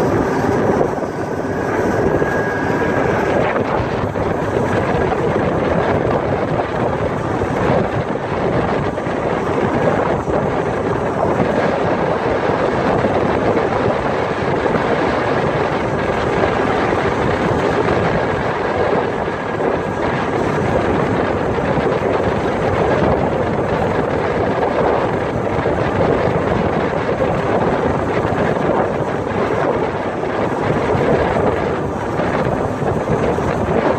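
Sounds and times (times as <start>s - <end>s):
boat engines running: 0.0s - 33.9s
wind buffeting microphone: 0.0s - 33.9s.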